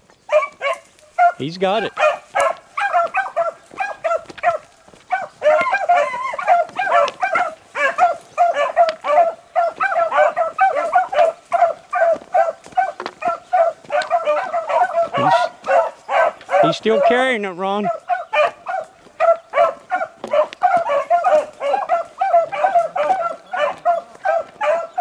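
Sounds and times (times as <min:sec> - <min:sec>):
hounds baying: 0:00.2 - 0:25.0.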